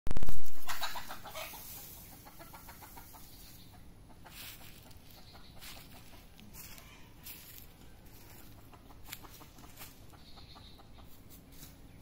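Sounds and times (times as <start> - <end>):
hen clucking: 0.3 - 12.0.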